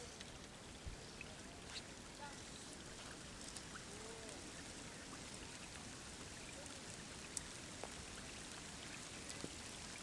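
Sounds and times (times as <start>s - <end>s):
rain hissing: 0.0s - 10.0s
raindrops ticking: 0.0s - 10.0s.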